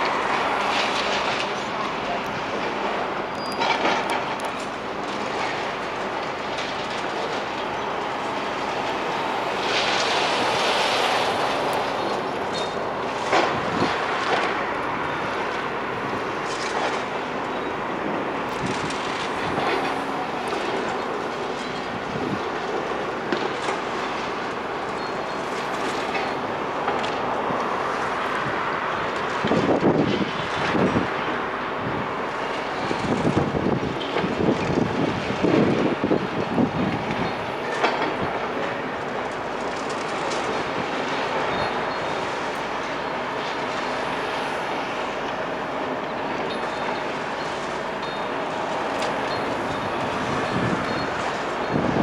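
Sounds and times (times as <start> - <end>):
demolition machine noise: 0.0 - 52.0.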